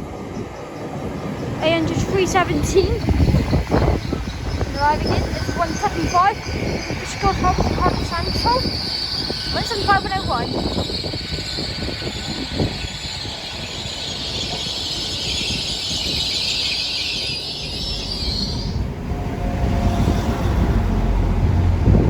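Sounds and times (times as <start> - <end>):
train brakes squealing: 0.0 - 18.9
low rumble of train engines: 0.0 - 22.0.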